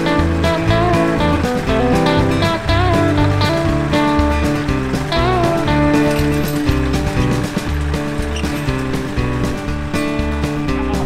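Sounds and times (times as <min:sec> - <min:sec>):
instrumental music with bass line: 0:00.0 - 0:11.0.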